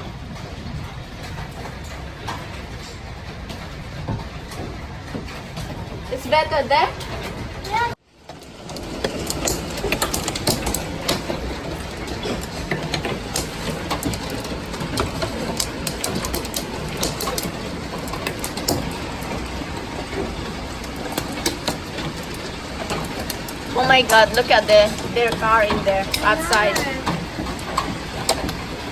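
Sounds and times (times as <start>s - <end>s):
hail clattering: 0.0s - 28.9s
heavy rain rushing: 0.0s - 28.9s.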